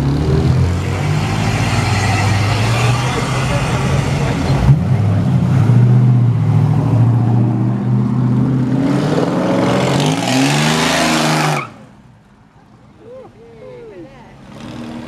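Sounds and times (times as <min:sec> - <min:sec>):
car engine revving and accelerating: 0:00.0 - 0:11.7, 0:14.4 - 0:15.0.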